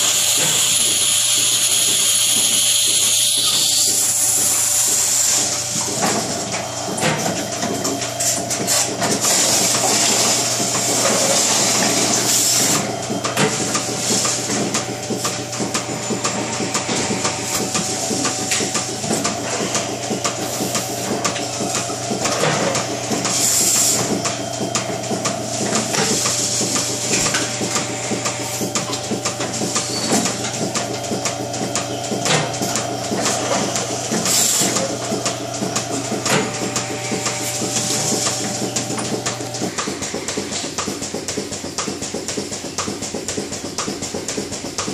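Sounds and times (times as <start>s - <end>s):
milking machine hum: 0.0s - 44.9s
clicking and knocking: 5.4s - 44.9s.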